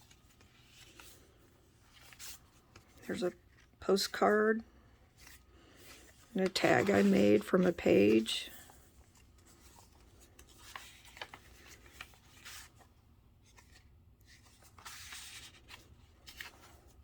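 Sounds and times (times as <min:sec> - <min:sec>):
paper rustling and sliding: 0:00.0 - 0:04.2, 0:05.0 - 0:17.0.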